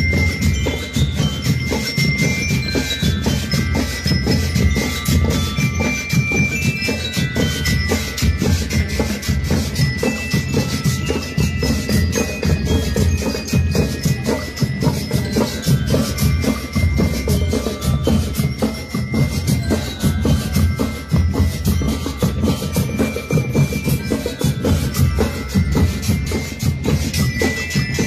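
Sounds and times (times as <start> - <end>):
bell lyres ringing melody: 0.0 - 28.0
marching band drums: 0.0 - 28.0.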